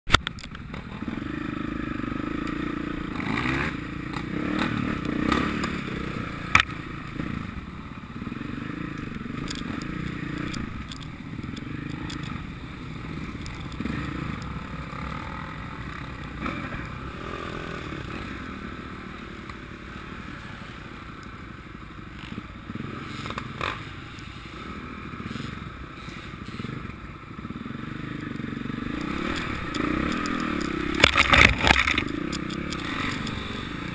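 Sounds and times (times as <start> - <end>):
motocross engines revving: 0.7 - 20.9, 22.1 - 33.9.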